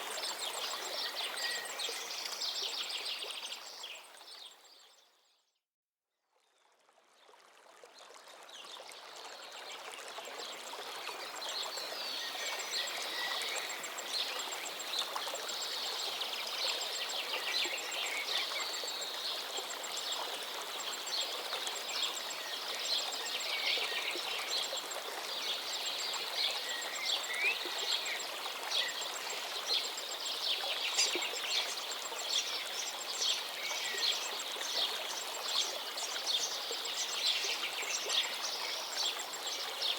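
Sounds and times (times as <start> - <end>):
stream flowing: 0.0 - 4.8, 6.6 - 39.9.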